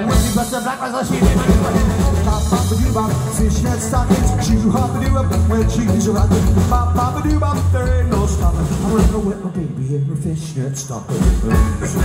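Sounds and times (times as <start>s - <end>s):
upright double bass: 0.0s - 9.3s, 11.2s - 12.0s
drum kit: 0.0s - 12.0s.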